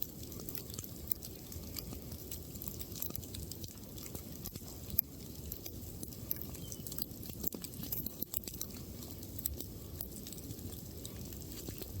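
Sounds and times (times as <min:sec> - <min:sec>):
campfire crackling: 0:00.0 - 0:12.0
low rumble of flames: 0:00.0 - 0:12.0.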